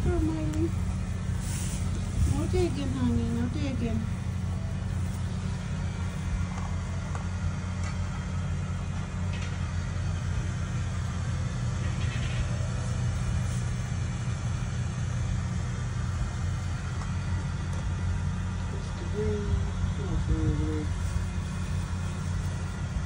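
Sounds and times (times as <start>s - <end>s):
trailer rumble while towed: 0.0s - 23.0s.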